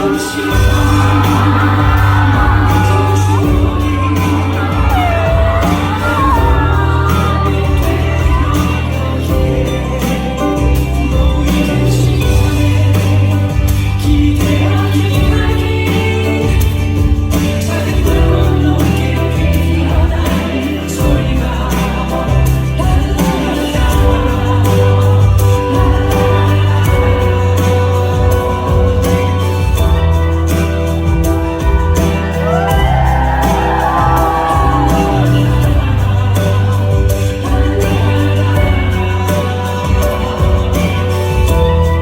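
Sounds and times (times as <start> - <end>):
backing music: 0.0 - 42.0
person singing ballad with vibrato: 0.0 - 42.0
steady bass line: 0.0 - 42.0.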